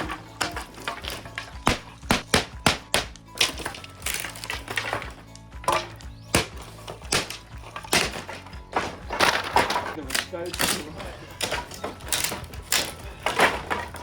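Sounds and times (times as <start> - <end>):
background music: 0.0 - 14.0
sharp knocks and clatters: 0.0 - 14.0.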